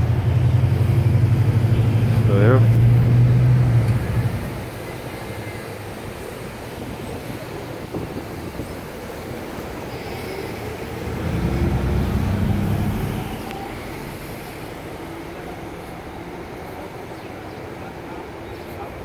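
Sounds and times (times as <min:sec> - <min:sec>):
low street rumble: 0:00.0 - 0:19.0.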